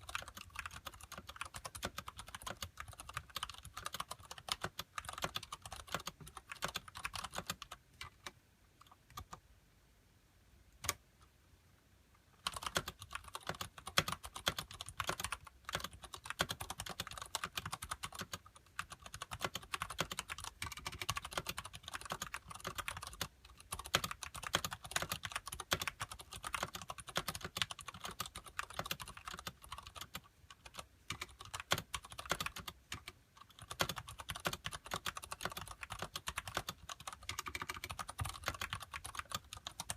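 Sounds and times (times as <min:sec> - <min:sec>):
mechanical keyboard typing: 0:00.0 - 0:09.4, 0:10.8 - 0:11.0, 0:12.4 - 0:39.9.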